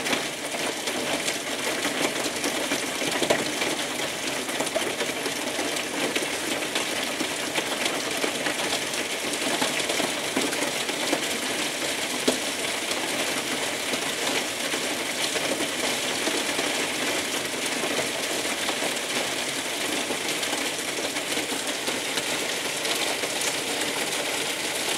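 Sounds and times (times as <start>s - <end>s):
hail and rain drumming on roof: 0.0s - 24.9s.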